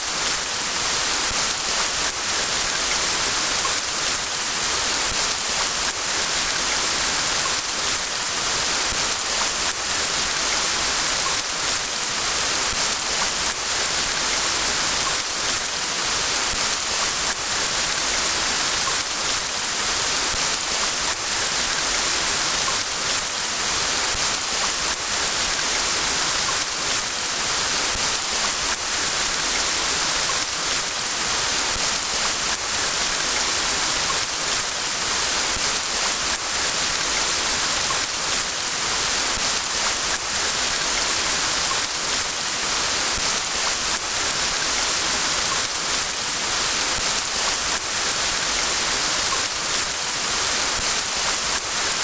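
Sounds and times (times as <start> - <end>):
rain falling in a forest: 0.0 - 52.0.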